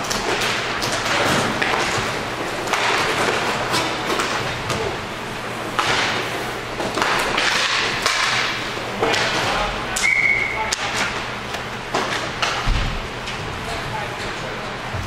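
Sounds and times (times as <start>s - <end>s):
hockey sticks knocking: 0.0s - 5.0s, 5.6s - 13.5s.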